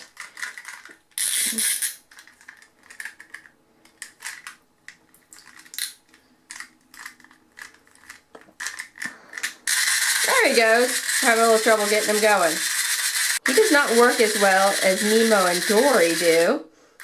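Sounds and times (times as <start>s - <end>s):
plastic toy clicks and rattles: 0.0s - 16.5s.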